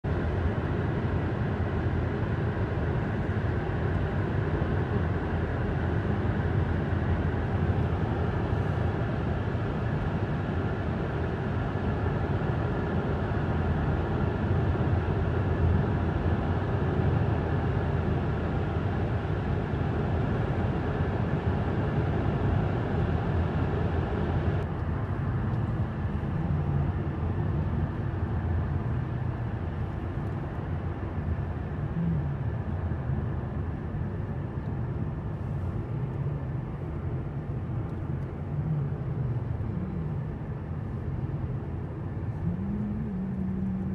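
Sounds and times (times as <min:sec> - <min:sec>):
car road noise from inside: 0:00.1 - 0:43.9.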